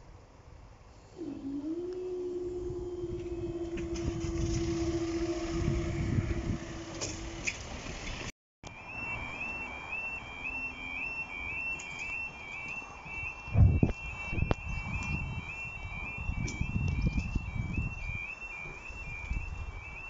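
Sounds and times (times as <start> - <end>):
two-tone warbling warning alarm: 1.2 - 7.9, 8.6 - 20.0
barrier machinery humming: 1.2 - 20.0.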